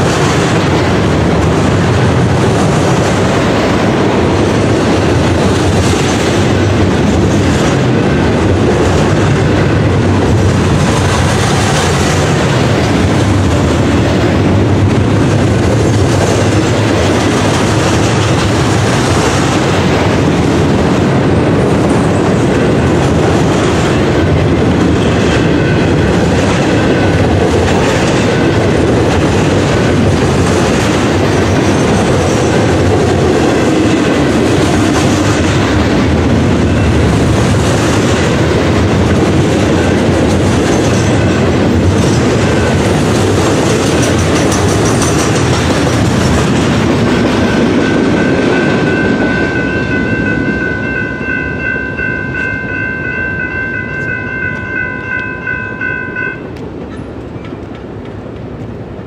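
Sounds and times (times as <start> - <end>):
freight cars rumbling on rails: 0.0 - 59.0.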